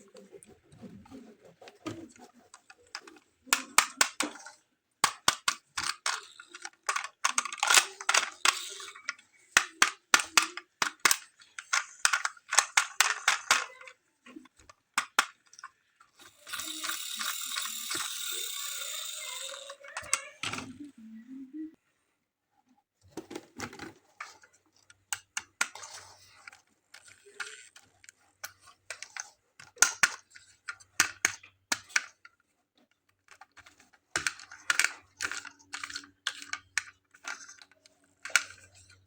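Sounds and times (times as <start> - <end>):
plastic clicks and rattles: 0.2 - 20.9, 23.1 - 39.0.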